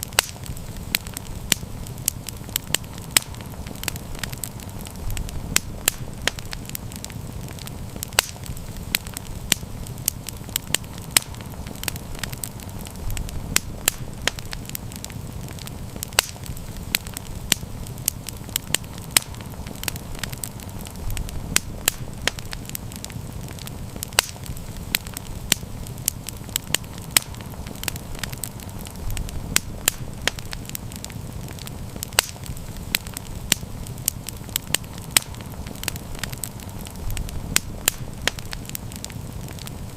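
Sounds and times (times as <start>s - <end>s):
campfire crackling and popping: 0.0s - 39.9s
low rush of flames: 0.0s - 39.9s.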